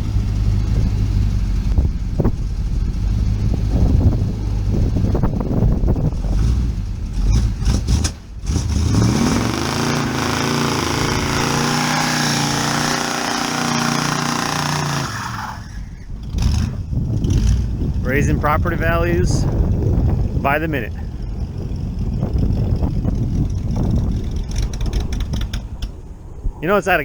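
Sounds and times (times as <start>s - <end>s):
tyres spinning in burnout: 0.0s - 26.7s
car engine rumbling and revving: 0.0s - 27.0s.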